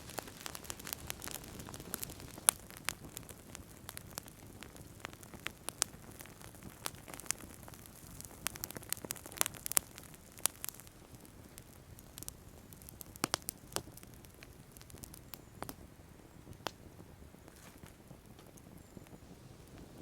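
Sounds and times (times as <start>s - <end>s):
low fire hiss: 0.0s - 20.0s
wood fire crackling and popping: 0.0s - 20.0s.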